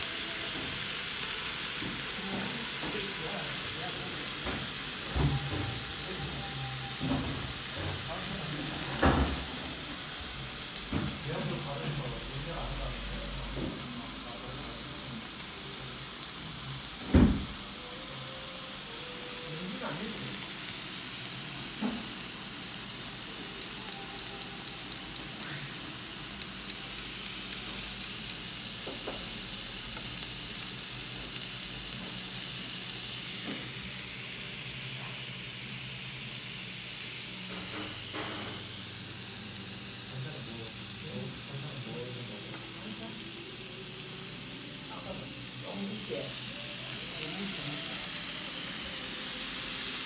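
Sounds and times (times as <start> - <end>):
meat sizzling on a grill: 0.0 - 50.0.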